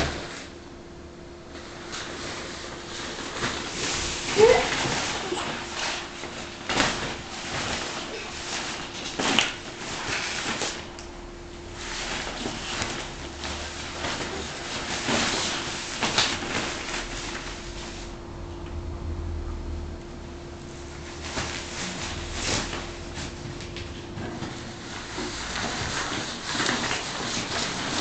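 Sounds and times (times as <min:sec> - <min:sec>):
nylon tent rustling: 0:01.5 - 0:10.9, 0:11.6 - 0:18.2, 0:20.8 - 0:28.0.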